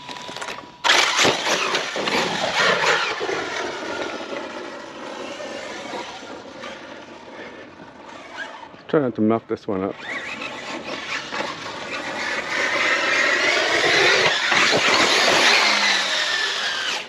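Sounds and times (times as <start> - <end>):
electric motor whining: 0.0 - 8.9, 9.8 - 17.0.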